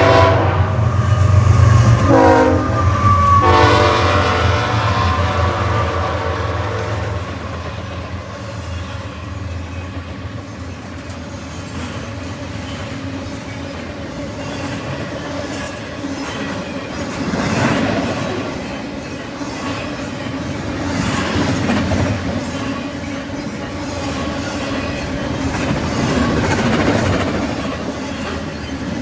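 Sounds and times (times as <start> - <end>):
train wheels clattering on rails: 0.8 - 29.0.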